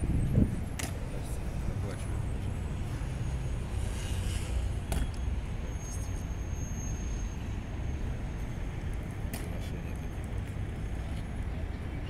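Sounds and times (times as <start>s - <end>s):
low rumble of city traffic: 0.0s - 12.0s.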